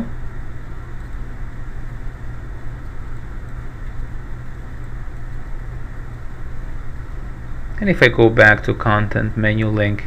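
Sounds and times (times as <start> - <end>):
low hum with hiss: 0.0 - 10.0.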